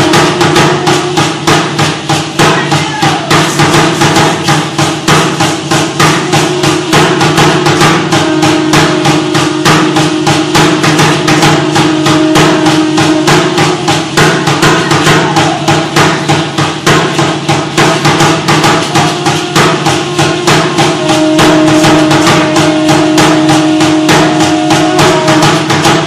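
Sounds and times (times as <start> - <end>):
fast drum beat: 0.0 - 26.0.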